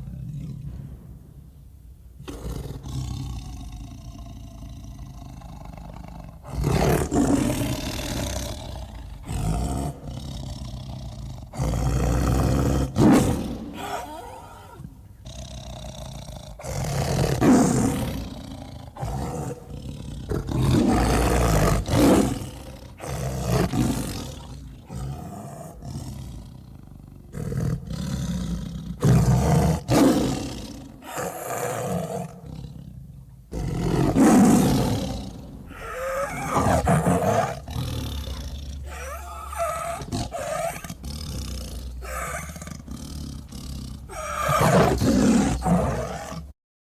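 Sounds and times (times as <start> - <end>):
big cat growling: 0.0 - 1.3, 2.2 - 46.6
big cat roaring: 2.2 - 46.6.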